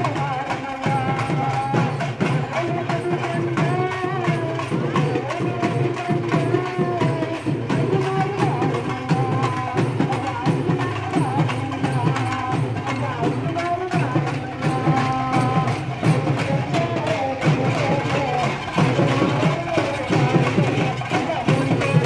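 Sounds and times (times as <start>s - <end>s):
fast dense drumming: 0.0s - 22.0s.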